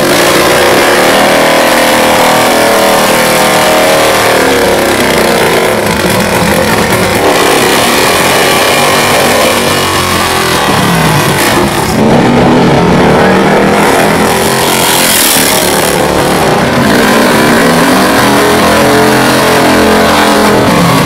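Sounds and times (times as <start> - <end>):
motorcycle engine revving hard: 0.0 - 21.0
rear tyre spinning: 0.0 - 21.0.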